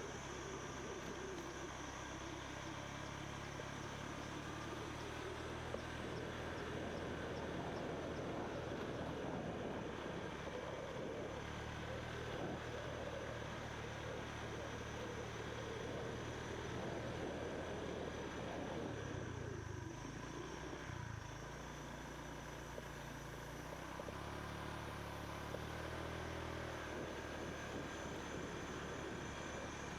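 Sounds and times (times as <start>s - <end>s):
motorbike engine running: 0.0s - 29.9s
wind and road noise: 0.0s - 29.9s.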